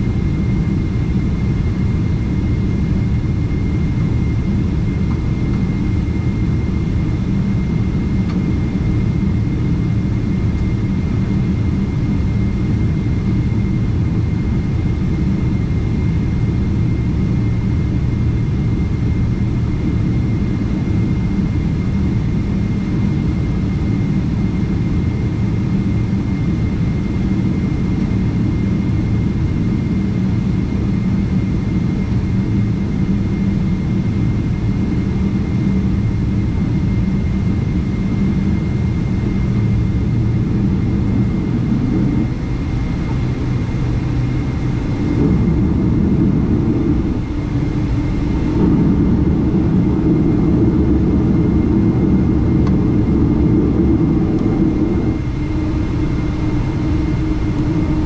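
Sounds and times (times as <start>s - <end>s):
jet engine drone with whine: 0.0s - 58.0s.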